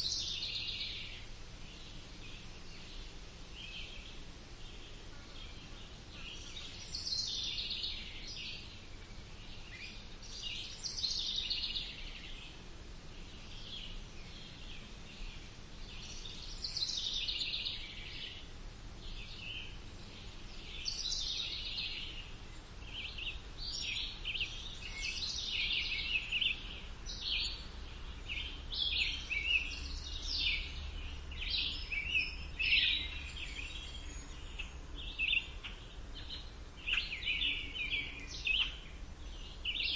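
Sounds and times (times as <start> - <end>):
faint steady background hum: 0.0 - 39.9
songbirds singing and chirping: 0.0 - 39.9.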